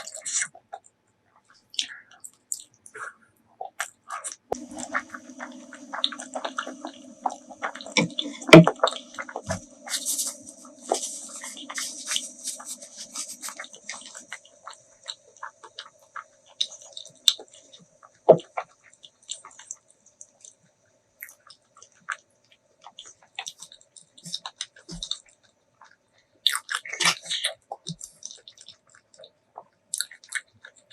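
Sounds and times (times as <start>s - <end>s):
wet chewing: 0.0s - 20.6s, 21.2s - 30.9s.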